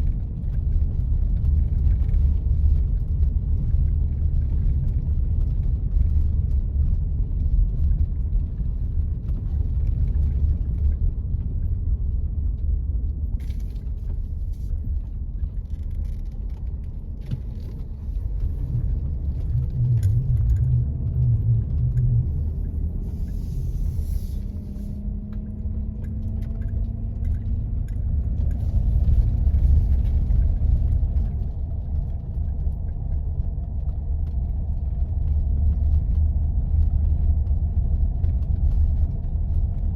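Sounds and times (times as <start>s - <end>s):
engine and tyres rumbling: 0.0s - 39.9s
light clicks and rattles: 0.0s - 39.9s.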